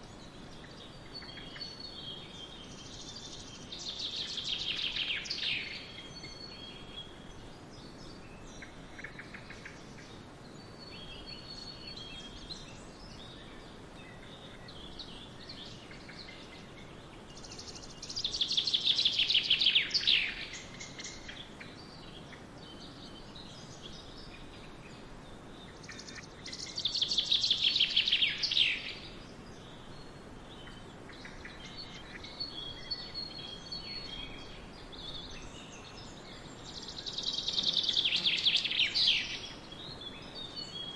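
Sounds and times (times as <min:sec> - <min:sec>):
birds chirping: 0:00.0 - 0:40.9
soft hiss: 0:00.0 - 0:40.9.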